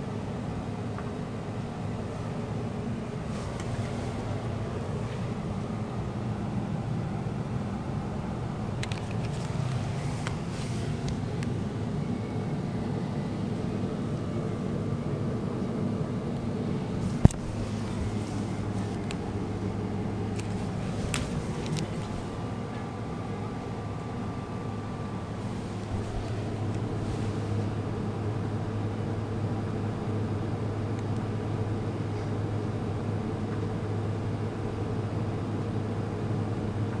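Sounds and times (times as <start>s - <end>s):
low hum and hiss: 0.0s - 37.0s.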